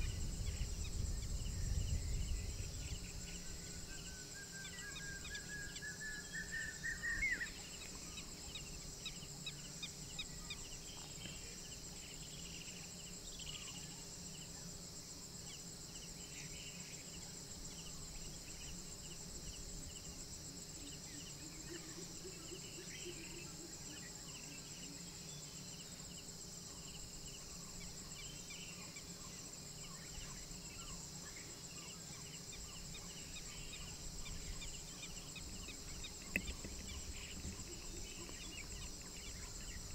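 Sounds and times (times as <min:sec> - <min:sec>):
insects ringing drone: 0:00.0 - 0:39.9
short insect chirps: 0:00.0 - 0:39.9.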